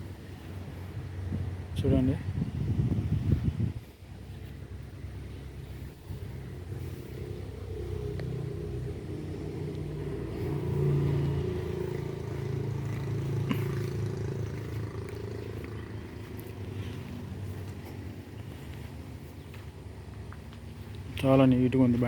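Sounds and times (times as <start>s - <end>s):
tractor diesel engine humming: 0.0s - 22.0s.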